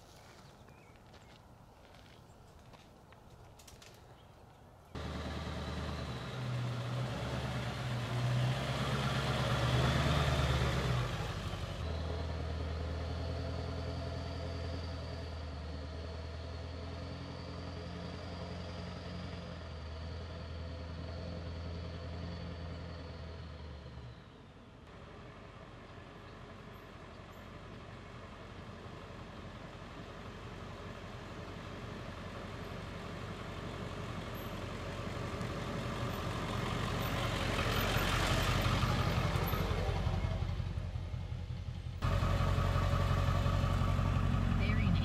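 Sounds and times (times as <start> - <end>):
tyre noise on road: 0.0 - 24.2, 24.8 - 45.0
truck engine driving past: 4.9 - 45.0.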